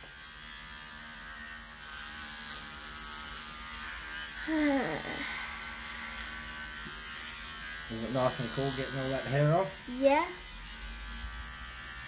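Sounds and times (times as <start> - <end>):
electric hair clippers running: 0.0 - 12.0.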